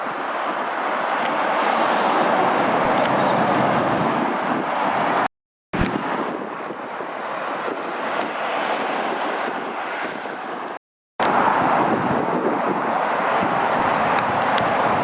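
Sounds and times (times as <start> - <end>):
trucks passing close by: 0.0 - 15.0
wind on microphone: 1.3 - 15.0.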